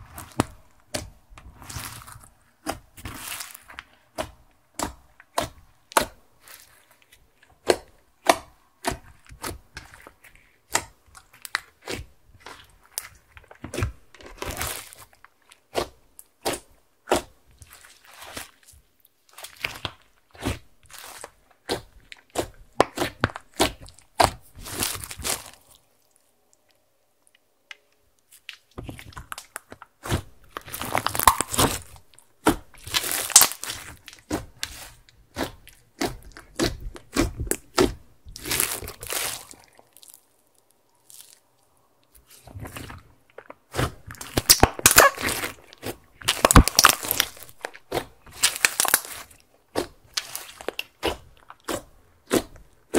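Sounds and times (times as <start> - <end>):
slime squishing and crackling: 0.0 - 26.3, 28.2 - 52.9.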